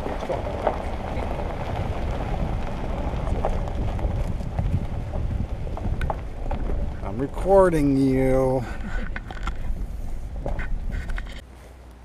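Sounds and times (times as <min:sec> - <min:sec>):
car engine and tyre rumble: 0:00.0 - 0:12.0
gravel crunching under tyres: 0:00.0 - 0:12.0.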